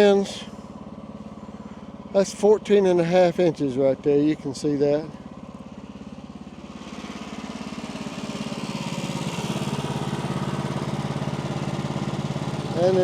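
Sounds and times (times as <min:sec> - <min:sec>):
small sawmill engine running: 0:00.0 - 0:13.0.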